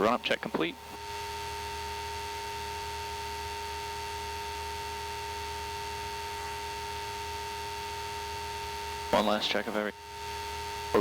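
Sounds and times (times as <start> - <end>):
faint engine idling hum: 0.0 - 11.0
two-tone electrical whine: 0.0 - 11.0.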